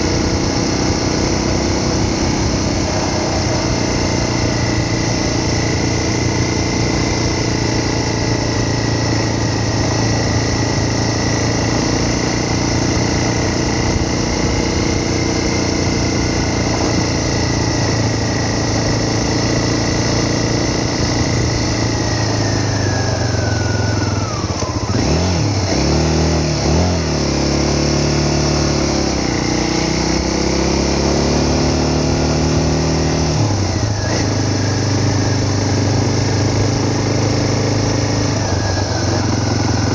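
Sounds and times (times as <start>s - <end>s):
vehicle engine driving: 0.0s - 39.9s.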